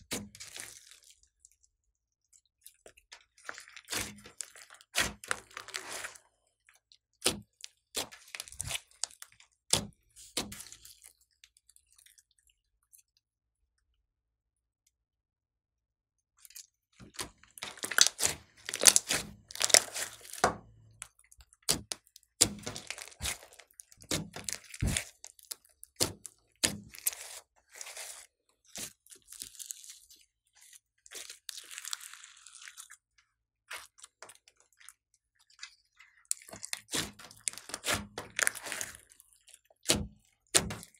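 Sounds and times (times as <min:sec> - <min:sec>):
slime squelching and popping: 0:00.0 - 0:13.1, 0:16.4 - 0:40.9.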